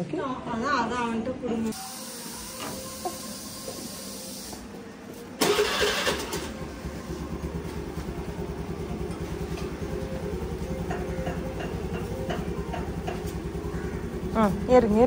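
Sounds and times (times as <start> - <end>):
scooter engine starting and idling: 1.7 - 15.0.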